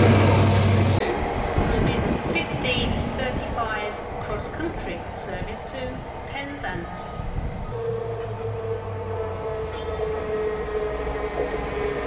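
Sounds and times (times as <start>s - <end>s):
train hum: 0.0s - 12.0s.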